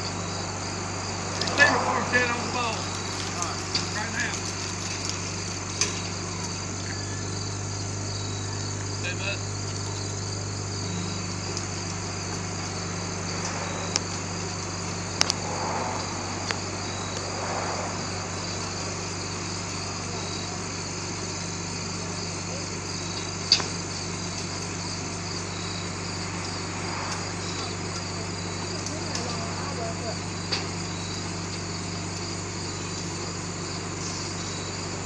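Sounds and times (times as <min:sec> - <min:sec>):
crickets chirring: 0:00.0 - 0:35.0
engine humming: 0:00.0 - 0:35.0.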